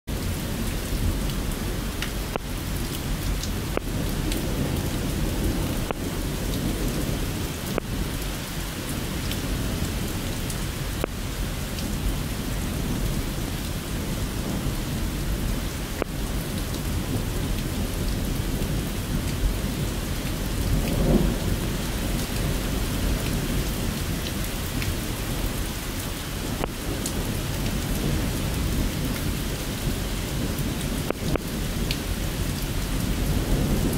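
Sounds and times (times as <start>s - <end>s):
low rumbling thunder: 0.1s - 25.7s, 26.3s - 33.9s
steady rain: 0.1s - 33.9s.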